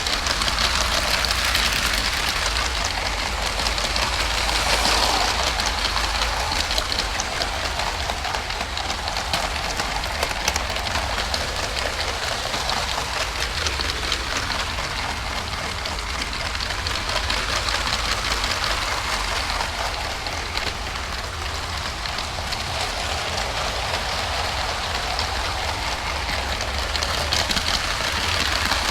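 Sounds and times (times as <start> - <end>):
toy train wheels rattling on track: 0.0 - 28.9.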